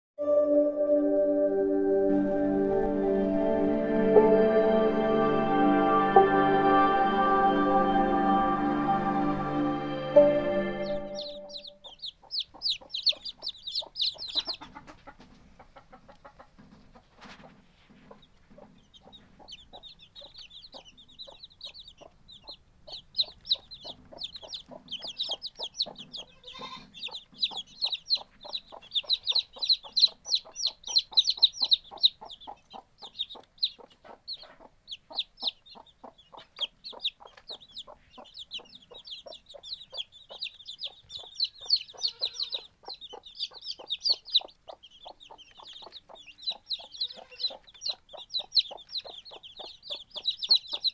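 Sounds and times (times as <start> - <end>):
baby chicks peeping: 10.1 - 50.9.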